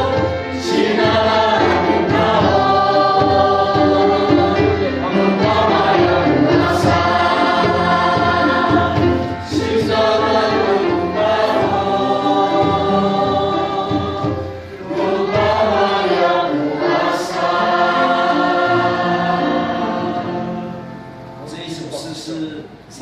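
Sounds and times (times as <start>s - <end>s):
congregation singing a hymn: 0.0s - 22.2s.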